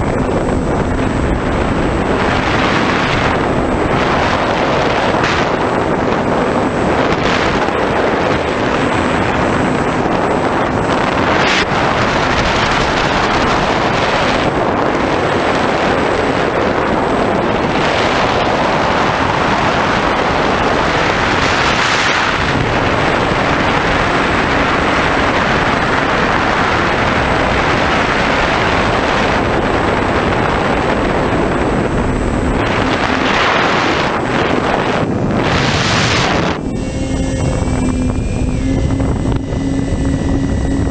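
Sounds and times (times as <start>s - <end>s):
motor and propeller drone: 0.0s - 40.9s
wind rushing on microphone: 0.0s - 40.9s.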